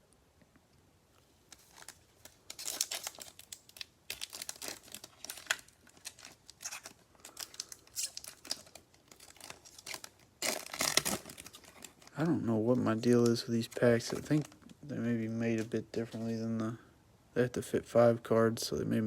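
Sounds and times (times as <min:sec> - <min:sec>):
card wrappers crinkling: 0:01.4 - 0:16.8.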